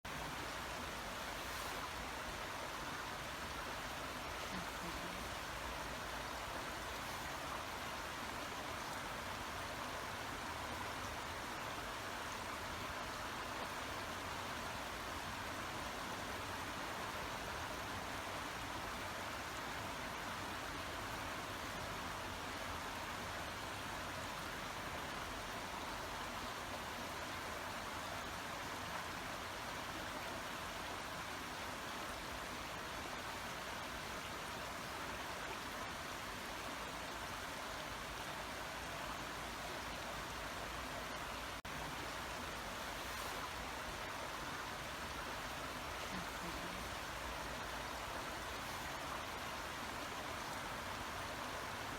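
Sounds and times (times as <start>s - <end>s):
water running over stones: 0.1s - 51.9s.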